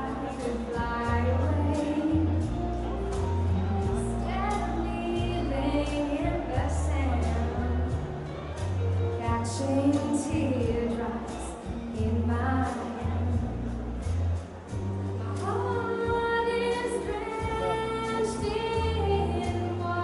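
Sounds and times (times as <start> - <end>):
woman singing into a microphone: 0.0 - 8.2, 8.9 - 14.2, 15.0 - 20.0
light percussion: 0.0 - 20.0
steady bass line: 0.0 - 20.0.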